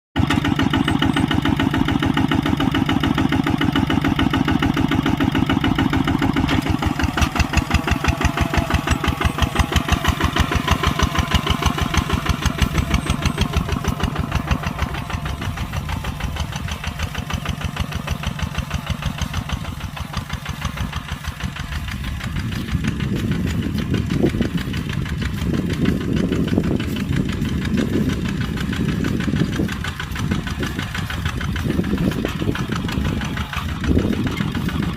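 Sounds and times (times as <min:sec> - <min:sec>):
tractor diesel engine running: 0:00.2 - 0:34.9
rough low rumble: 0:00.4 - 0:34.9.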